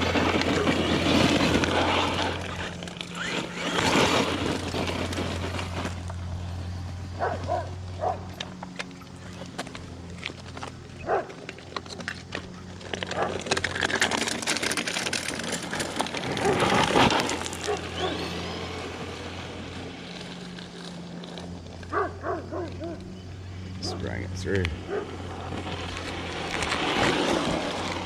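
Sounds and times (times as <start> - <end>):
rc truck electric motor: 0.0 - 28.0.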